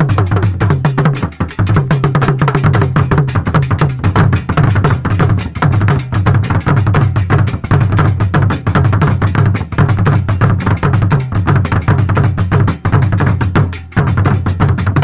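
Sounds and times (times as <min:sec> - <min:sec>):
music with fast drumming and heavy bass: 0:00.0 - 0:15.0.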